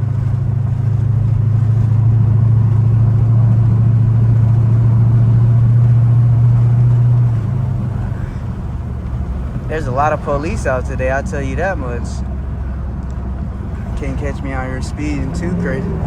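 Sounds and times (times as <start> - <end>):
vehicle exhaust droning: 0.0 - 16.0.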